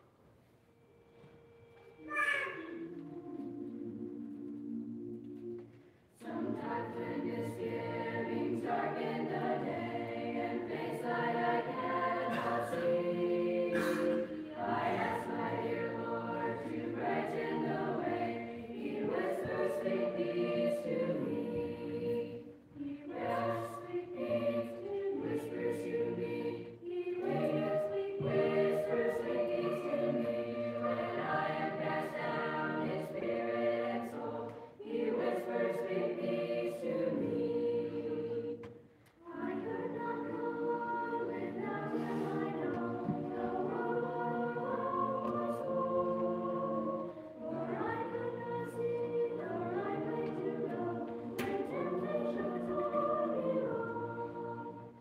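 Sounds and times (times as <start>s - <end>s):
choir singing a cappella: 0.7s - 55.0s.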